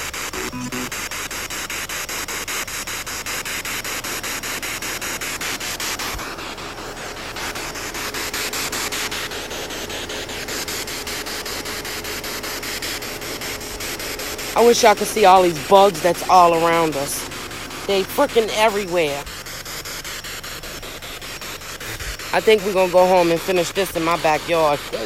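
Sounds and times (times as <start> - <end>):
chopped radio static: 0.0 - 25.0.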